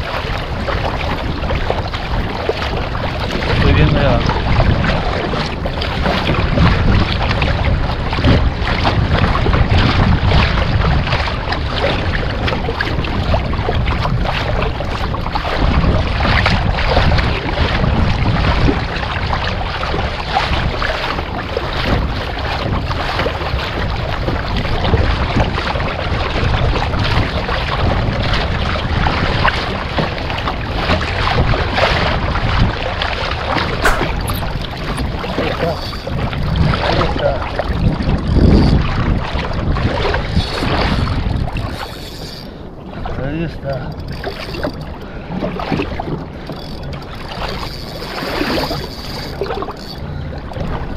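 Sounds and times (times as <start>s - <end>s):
wind rushing over microphone: 0.0s - 30.0s, 30.6s - 41.8s
water splashing against hull: 0.0s - 50.9s.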